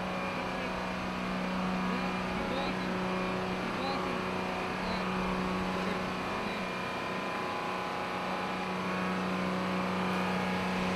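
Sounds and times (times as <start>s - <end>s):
machinery engine droning: 0.0s - 10.9s.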